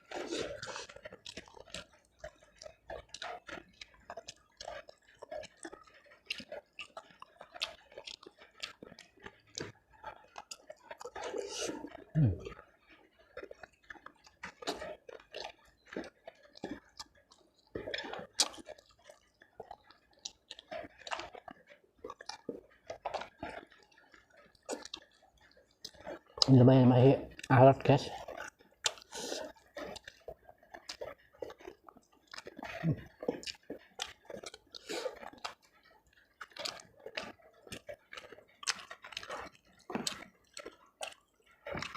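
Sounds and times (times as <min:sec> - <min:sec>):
person chewing with wet mouth clicks: 0:00.0 - 0:41.9.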